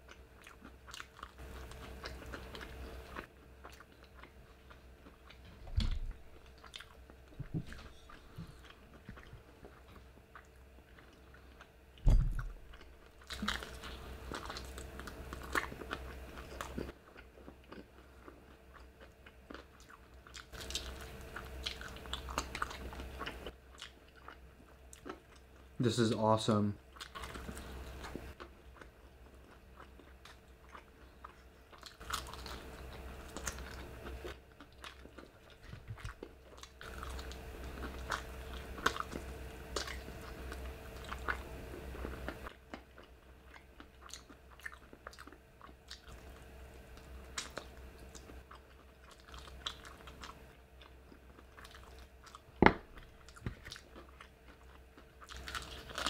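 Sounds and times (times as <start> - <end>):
chewing crispy fried food: 0.0 - 56.0.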